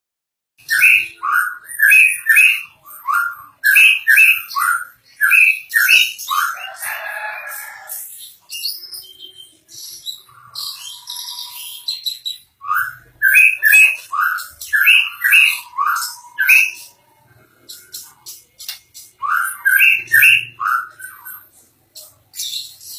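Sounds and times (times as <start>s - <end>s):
bird whistled song: 0.6s - 6.9s, 7.5s - 22.9s.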